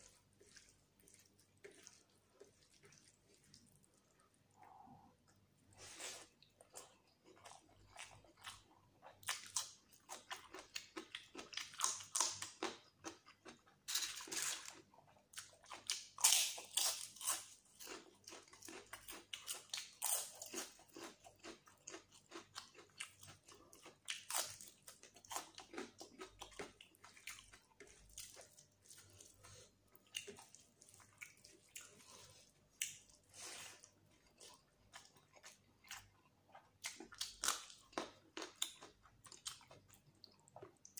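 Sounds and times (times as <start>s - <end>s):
chewing with mouth clicks: 0.0s - 40.9s.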